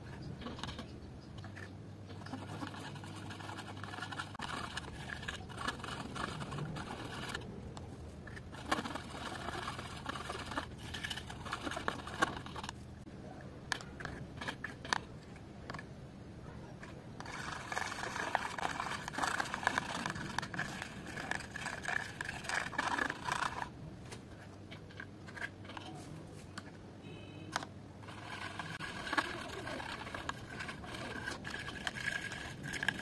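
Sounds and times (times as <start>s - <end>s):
palette knife scraping paint: 0.0s - 12.9s, 13.7s - 15.8s, 16.7s - 27.4s, 28.0s - 33.0s.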